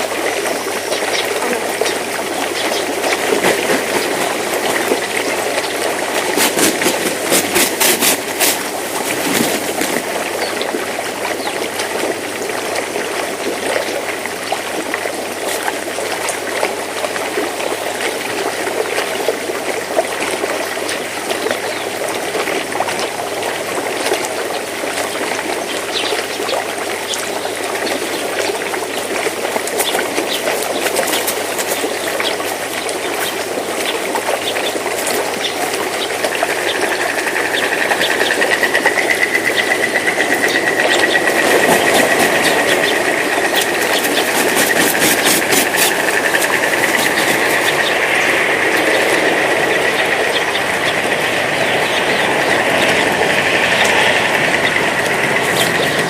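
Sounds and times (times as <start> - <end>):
trickle of running water: 0.0 - 56.0.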